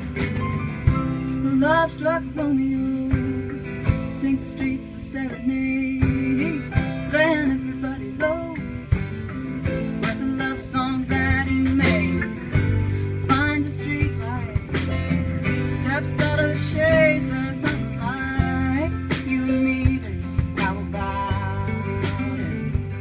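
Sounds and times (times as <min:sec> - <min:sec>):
acoustic guitar: 0:00.0 - 0:23.0
drum kit steady beat: 0:00.0 - 0:23.0
keyboard: 0:00.0 - 0:23.0
lead electric guitar with bending notes: 0:00.0 - 0:23.0.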